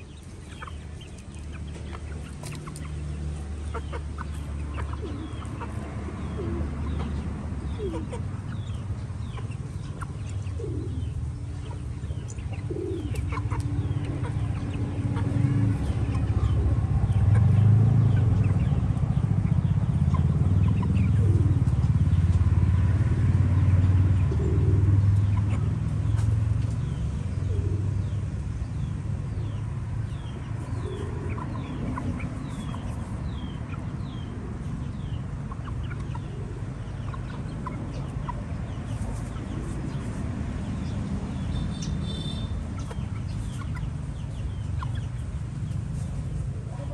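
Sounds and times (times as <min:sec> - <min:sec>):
young chickens clucking: 0:00.0 - 0:46.9.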